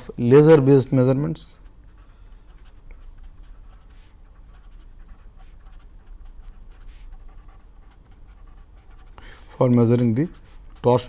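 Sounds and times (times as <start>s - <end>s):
pen scratching on paper: 1.5s - 11.0s.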